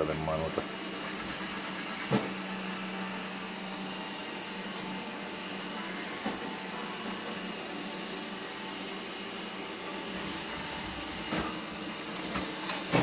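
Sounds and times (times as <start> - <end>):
robot vacuum whirring: 0.5 - 13.0.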